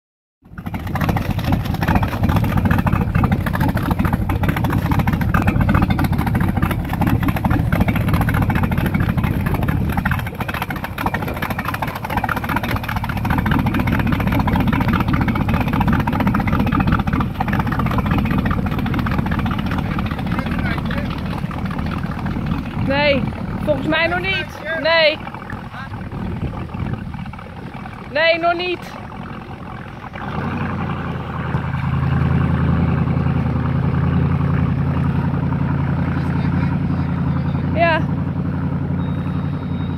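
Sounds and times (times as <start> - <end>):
boat engine running: 0.4 - 39.9.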